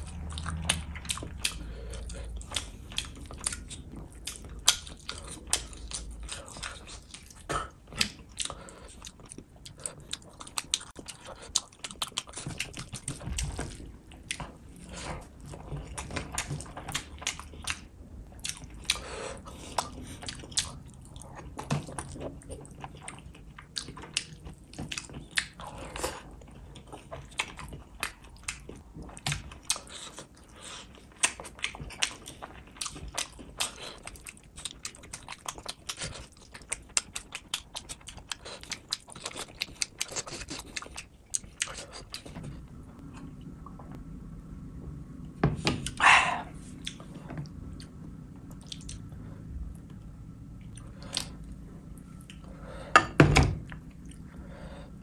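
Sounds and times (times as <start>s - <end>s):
person chewing: 0.0s - 43.9s, 45.8s - 53.0s, 53.6s - 55.0s.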